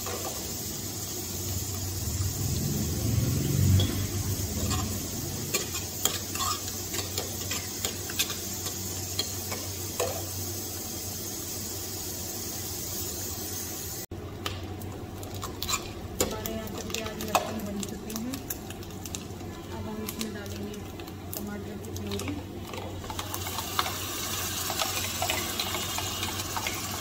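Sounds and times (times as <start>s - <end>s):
onion sizzling in oil: 0.0s - 27.0s.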